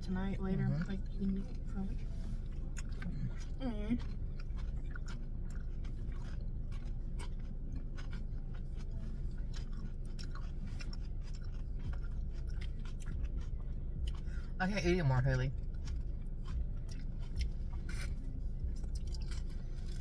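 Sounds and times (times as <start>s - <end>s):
chewing food: 0.0s - 20.0s
steady low hum: 0.0s - 20.0s.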